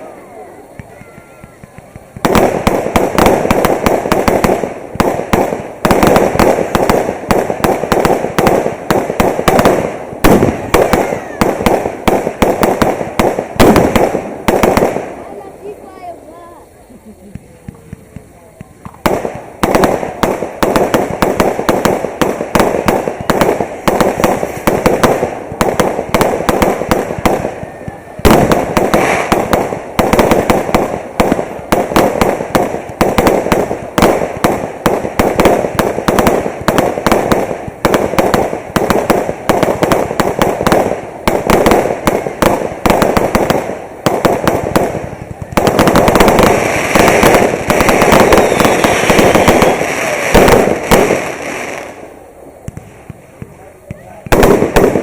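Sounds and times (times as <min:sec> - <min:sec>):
aerial fireworks bangs and crackling: 0:00.0 - 0:55.0.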